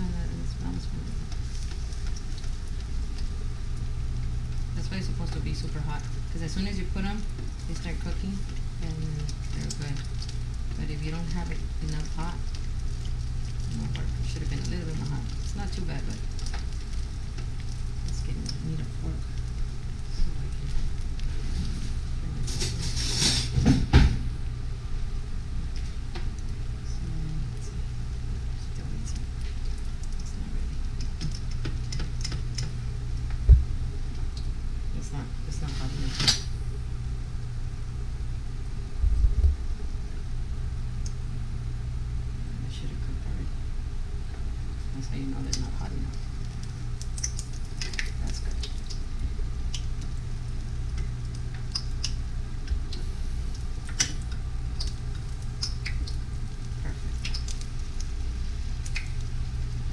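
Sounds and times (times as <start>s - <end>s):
food frying in crackling oil: 0.0s - 35.0s, 43.6s - 59.9s
steady low hum: 0.0s - 59.9s.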